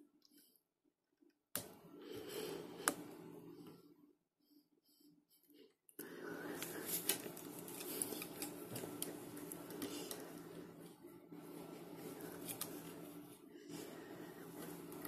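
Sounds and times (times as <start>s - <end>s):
steady low hum: 1.6s - 15.0s.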